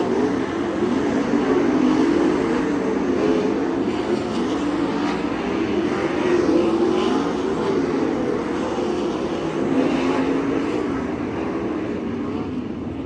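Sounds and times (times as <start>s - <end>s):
race car engines: 0.0s - 13.0s.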